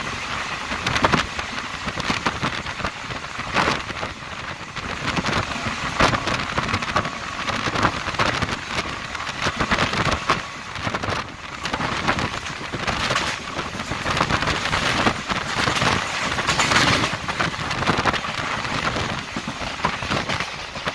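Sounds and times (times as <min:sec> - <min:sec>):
wheels rattling on rail: 0:00.0 - 0:20.9
wind noise: 0:00.0 - 0:20.9.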